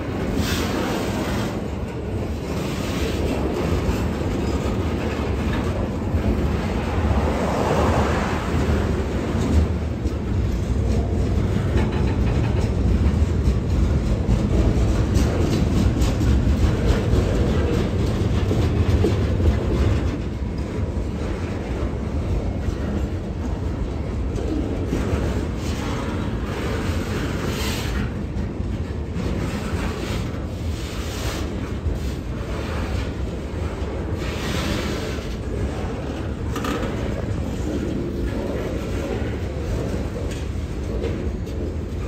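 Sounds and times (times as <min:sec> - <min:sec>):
train wheels rumbling on rails: 0:00.0 - 0:42.0
wheels clicking over rail joints: 0:00.0 - 0:42.0.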